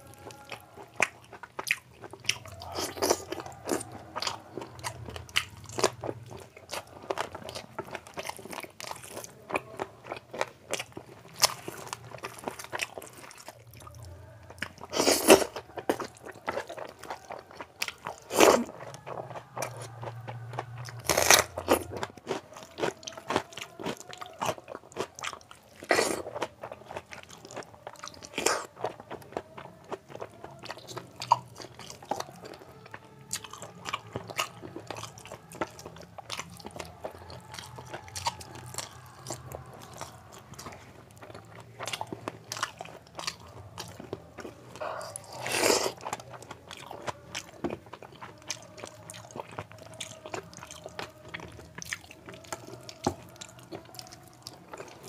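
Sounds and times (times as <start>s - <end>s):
chewing clicks: 0.1s - 55.0s.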